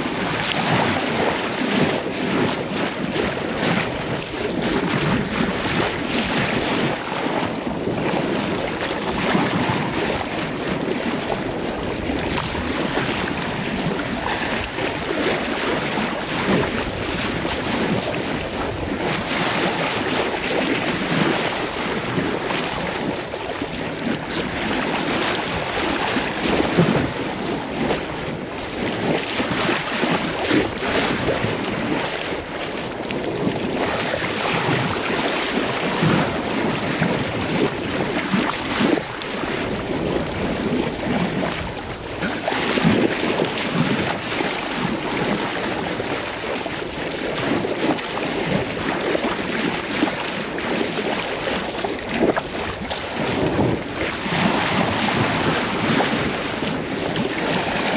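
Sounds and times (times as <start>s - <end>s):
water rushing along hull: 0.0s - 57.9s
wind buffeting microphone: 0.0s - 57.9s.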